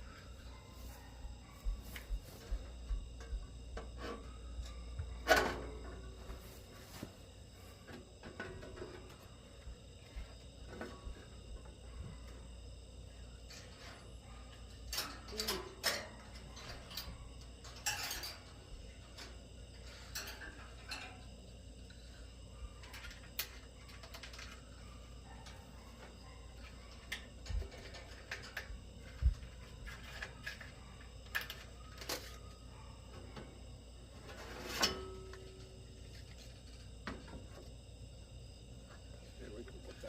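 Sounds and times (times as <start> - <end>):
crickets chirring: 0.0 - 40.0.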